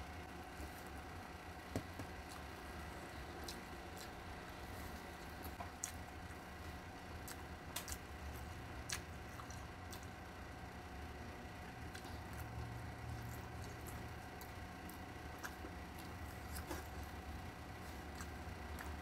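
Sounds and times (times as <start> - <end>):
steady hum: 0.0 - 19.0
person chewing food: 1.6 - 10.6, 11.6 - 19.0.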